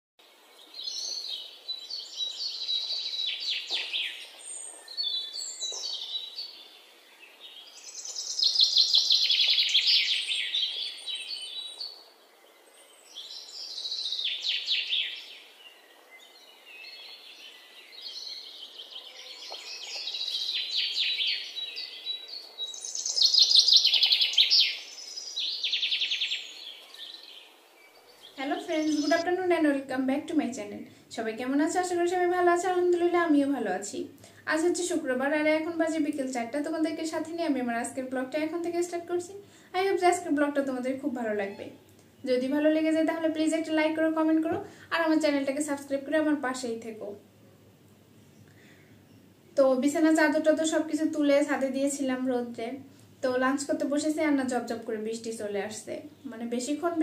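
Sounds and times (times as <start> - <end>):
songbird singing: 0.2 - 57.0.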